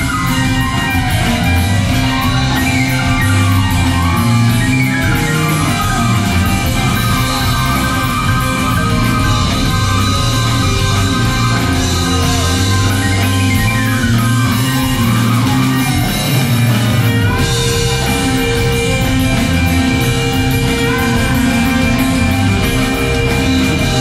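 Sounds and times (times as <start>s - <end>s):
drums: 0.0s - 24.0s
electric bass: 0.0s - 24.0s
keyboard: 0.0s - 24.0s.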